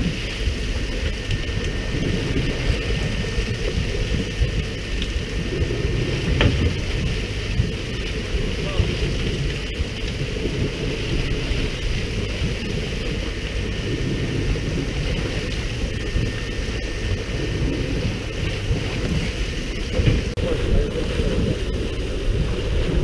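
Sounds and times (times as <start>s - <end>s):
boat engine low rumble: 0.0s - 23.0s
water rushing along boat hull: 0.0s - 23.0s
wind noise on microphone: 0.0s - 23.0s.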